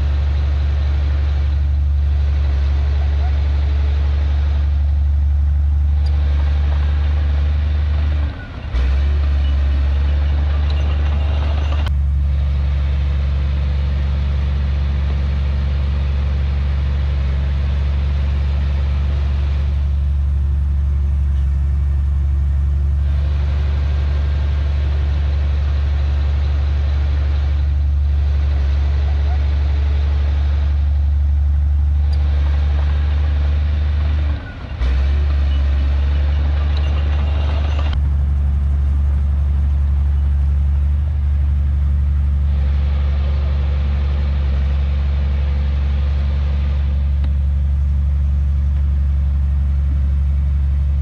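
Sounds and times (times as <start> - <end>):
heavy diesel engine droning: 0.0 - 51.0.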